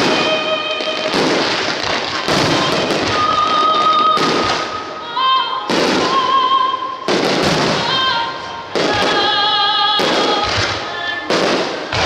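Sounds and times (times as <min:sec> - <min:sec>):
fireworks crackle: 0:00.0 - 0:12.0
fireworks shells bursting: 0:00.0 - 0:12.0.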